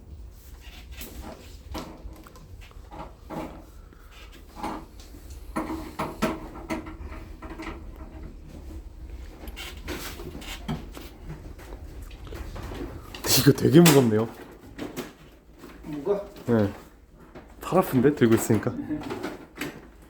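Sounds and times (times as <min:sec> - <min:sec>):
parts knocking and scraping: 0:00.4 - 0:20.0.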